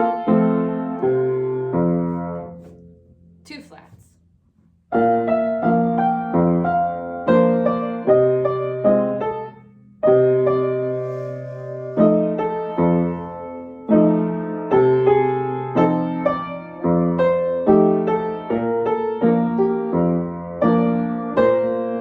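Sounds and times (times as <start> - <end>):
piano chords played slowly: 0.0 - 2.7, 4.9 - 22.0.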